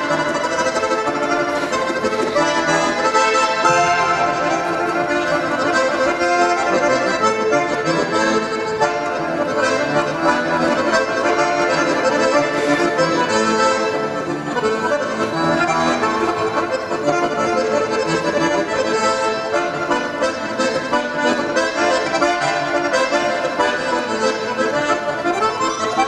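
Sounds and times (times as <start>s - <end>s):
button accordion playing: 0.0s - 26.0s.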